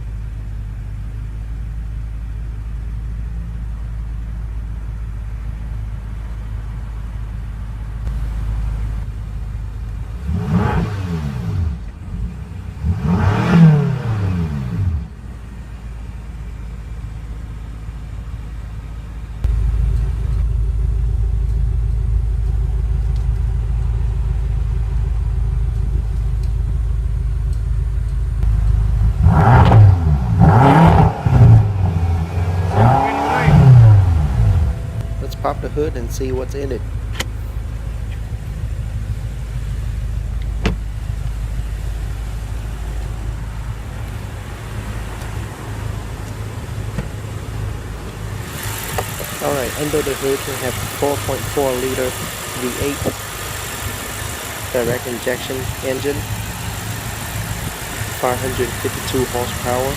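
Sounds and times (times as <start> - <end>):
car engine idling: 0.0 - 59.9
engine revving: 8.0 - 16.6, 19.4 - 59.9.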